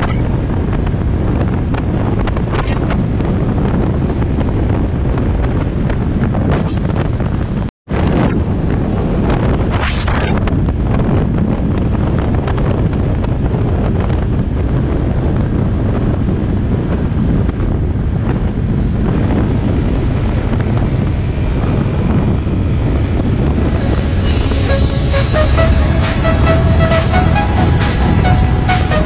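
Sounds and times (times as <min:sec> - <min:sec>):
heavy wind noise on microphone: 0:00.0 - 0:29.0.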